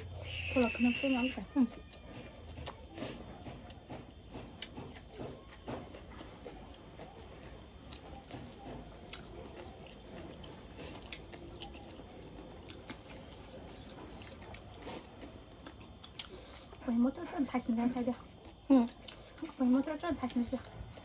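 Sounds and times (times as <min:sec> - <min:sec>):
person chewing food: 0:01.9 - 0:16.8, 0:18.0 - 0:21.0.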